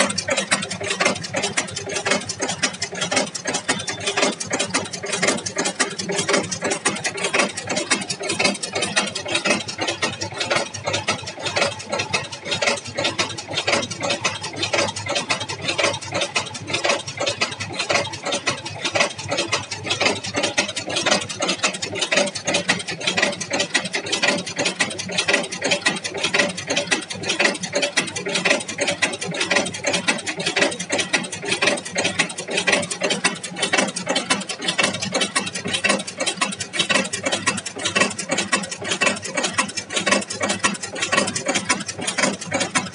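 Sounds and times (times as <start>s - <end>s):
chain-making machine clattering: 0.0s - 42.9s.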